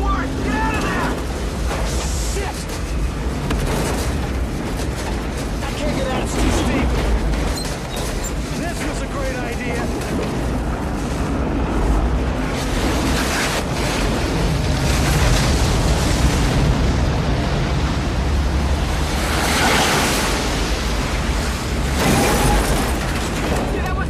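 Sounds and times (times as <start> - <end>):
roaring wind with deep rumble: 0.0 - 24.0.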